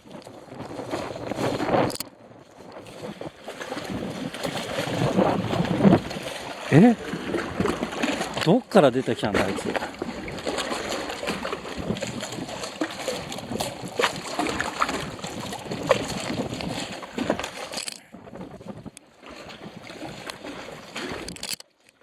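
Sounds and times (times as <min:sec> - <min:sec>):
gusty wind buffeting microphone: 0:00.0 - 0:21.3.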